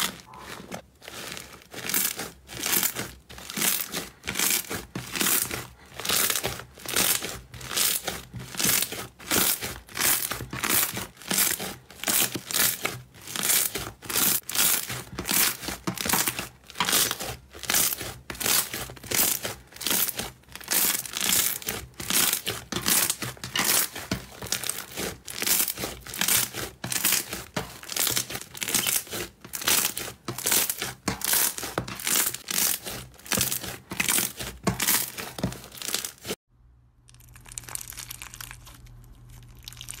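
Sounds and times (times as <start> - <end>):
hands squeezing slime: 0.0 - 36.4, 37.0 - 40.0.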